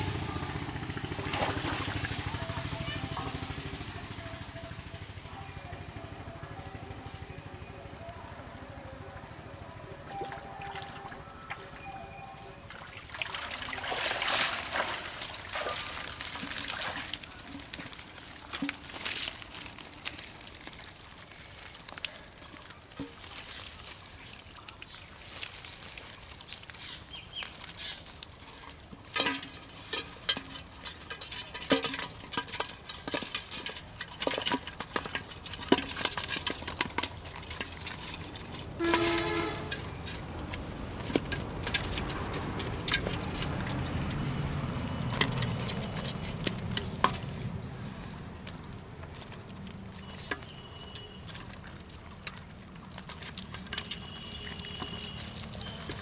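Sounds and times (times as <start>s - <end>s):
wet netting rustling: 0.0s - 2.9s, 8.3s - 56.0s
water splashing: 0.0s - 3.3s, 12.6s - 56.0s
fish flapping on mud: 0.0s - 3.8s, 12.6s - 56.0s.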